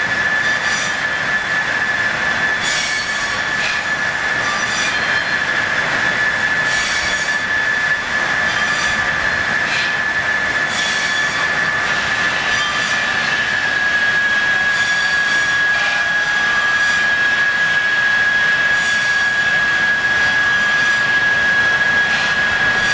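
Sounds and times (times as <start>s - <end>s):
rushing noise: 0.0s - 22.9s
sawmill machinery whining: 0.0s - 22.9s.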